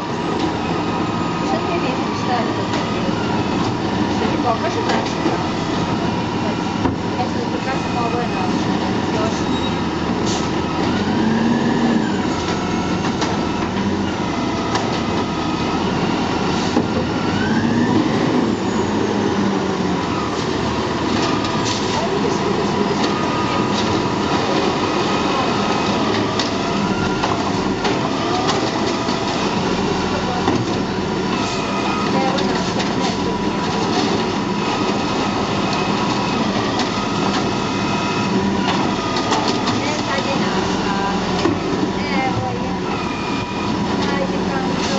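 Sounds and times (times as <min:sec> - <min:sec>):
garbage truck engine: 0:00.0 - 0:44.9
hydraulic whine: 0:00.0 - 0:44.9.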